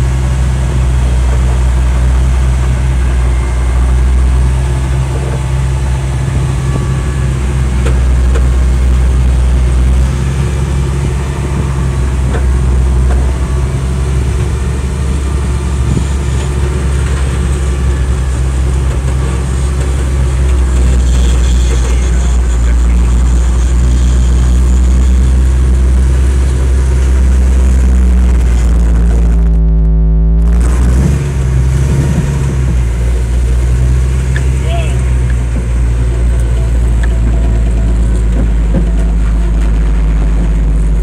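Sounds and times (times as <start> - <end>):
heavy diesel engines droning: 0.0 - 41.0.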